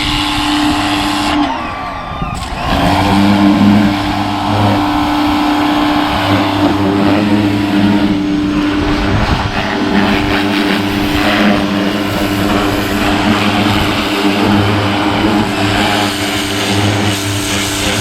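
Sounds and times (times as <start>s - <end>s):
pressure washer motor hum: 0.0s - 18.0s
water jet hissing: 2.6s - 18.0s.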